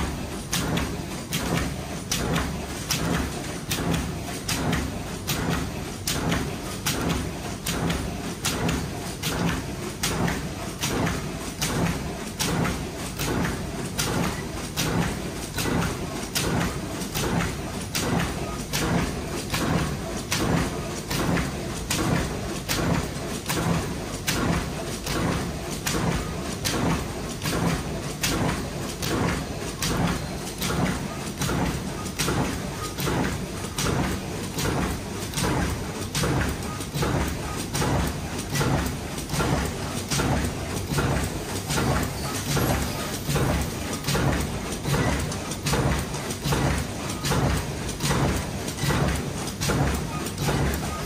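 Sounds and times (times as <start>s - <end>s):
steady mechanical hum: 0.0s - 51.0s.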